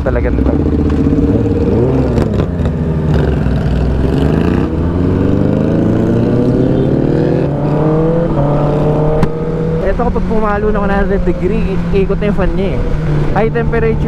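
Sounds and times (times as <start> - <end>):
motorcycle accelerating hard: 0.0 - 14.0.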